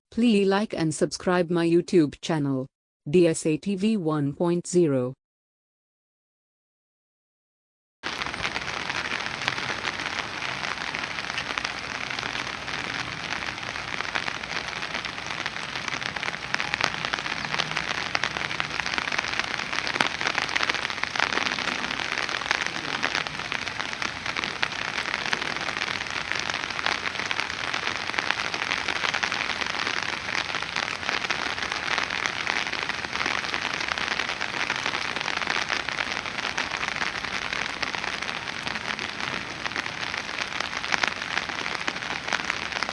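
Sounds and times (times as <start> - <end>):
heavy rain patter: 8.0 - 42.9.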